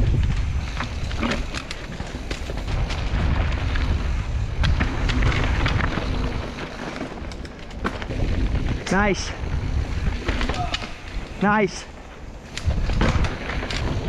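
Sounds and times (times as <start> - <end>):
bike clicks and knocks: 0.0 - 8.9, 9.6 - 11.4, 12.0 - 14.0
tyres rolling over dirt and rocks: 0.0 - 14.0
wind rumbling on microphone: 0.0 - 14.0.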